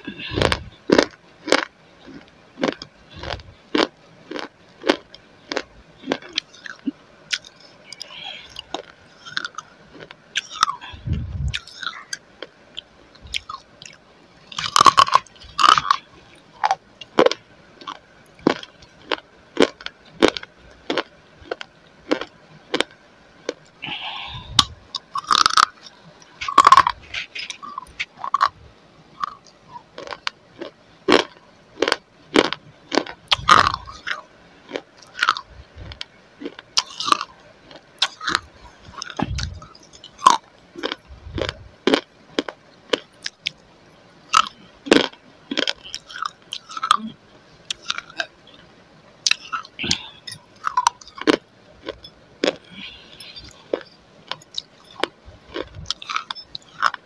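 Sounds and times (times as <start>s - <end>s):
crisp crunching and chewing: 0.0s - 43.7s, 44.3s - 47.1s, 47.7s - 57.0s.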